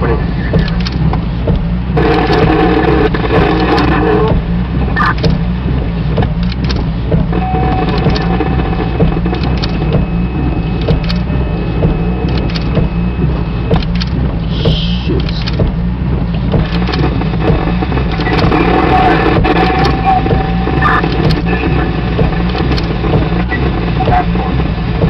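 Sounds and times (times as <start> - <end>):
motor vehicle rumbling: 0.0 - 25.0.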